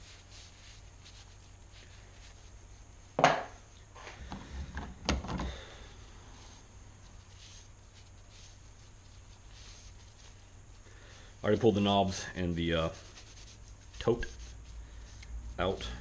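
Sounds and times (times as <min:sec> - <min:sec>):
scraping and rubbing with rag: 0:00.0 - 0:04.7, 0:05.6 - 0:16.0.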